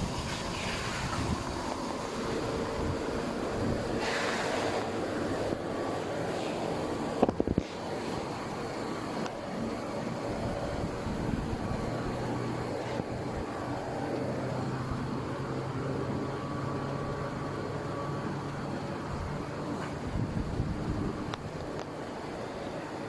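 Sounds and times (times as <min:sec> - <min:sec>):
air compressor running: 0:00.0 - 0:23.0
steady low hum: 0:00.0 - 0:23.0.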